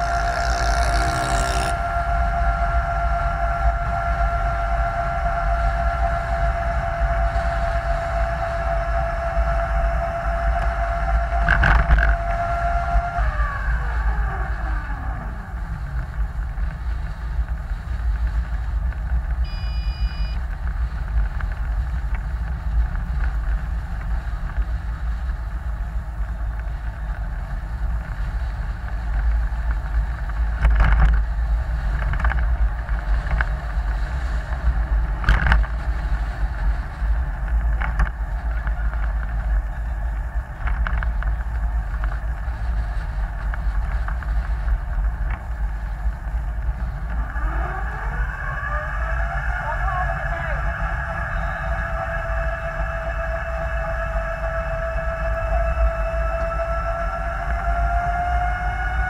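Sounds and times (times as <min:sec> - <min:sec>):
tyre and wind rumble: 0:00.0 - 0:59.0.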